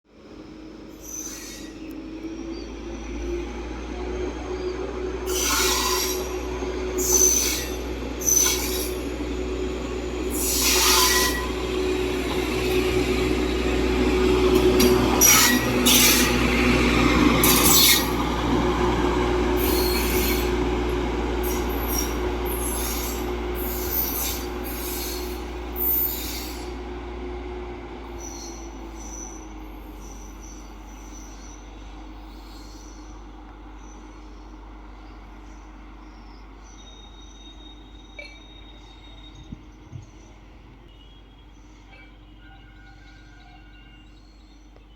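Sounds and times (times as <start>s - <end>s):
train engine drone: 0.1s - 44.9s
high wheel squeals: 0.8s - 3.6s, 5.2s - 18.5s, 19.5s - 26.8s, 28.1s - 33.2s, 36.6s - 44.6s.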